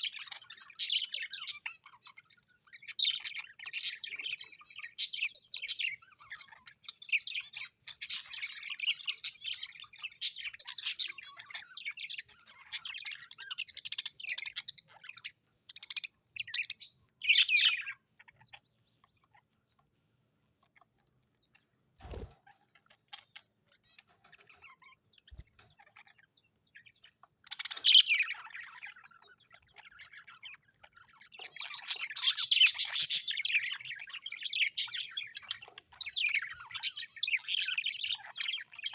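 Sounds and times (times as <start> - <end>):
parrots chirping: 0.0 - 38.9.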